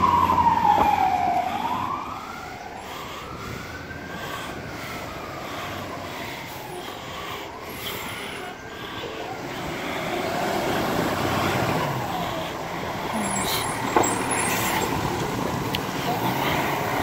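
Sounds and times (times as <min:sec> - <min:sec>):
fire truck diesel engine: 0:00.0 - 0:17.0.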